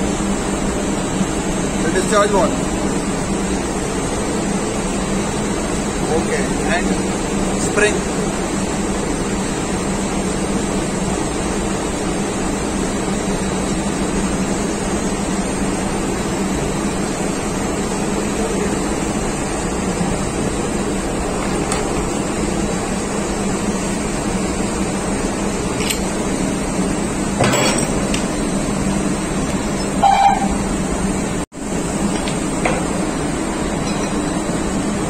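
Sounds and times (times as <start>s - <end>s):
machinery humming: 0.0s - 35.0s.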